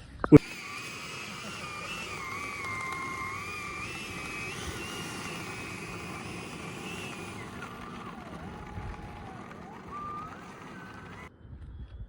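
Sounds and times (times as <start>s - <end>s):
electric ducted fan whine: 0.4s - 11.3s
steady rushing noise: 0.4s - 11.3s.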